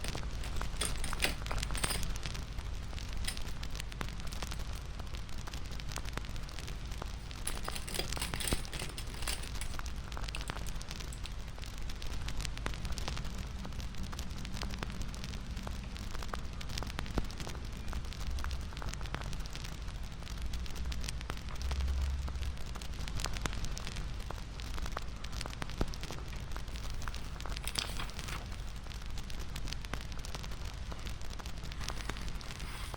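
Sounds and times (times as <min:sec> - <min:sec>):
fire popping: 0:00.0 - 0:07.5, 0:09.0 - 0:32.9
wood fire crackling: 0:00.0 - 0:32.9.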